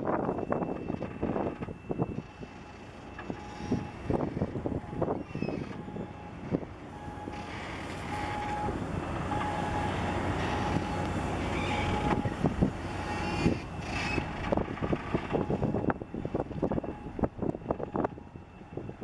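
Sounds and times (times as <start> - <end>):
engine rumble: 0.0 - 19.0
wind buffeting microphone: 0.0 - 19.0.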